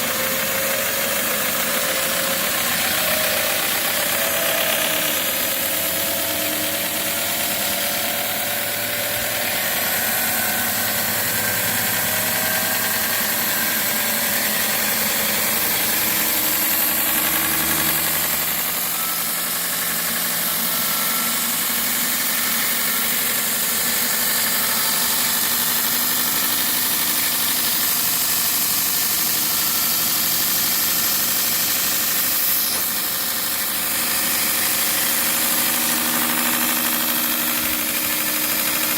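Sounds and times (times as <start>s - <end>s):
belt grinder humming and hissing: 0.0s - 38.9s.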